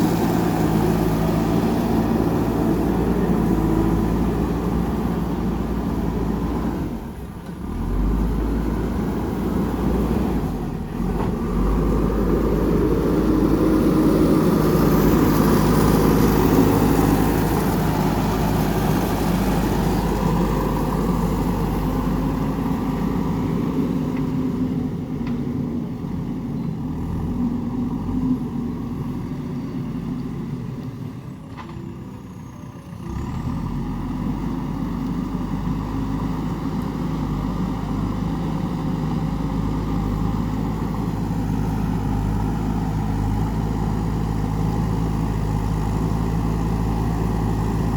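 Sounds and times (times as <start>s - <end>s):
backhoe diesel engine running: 0.0s - 47.9s.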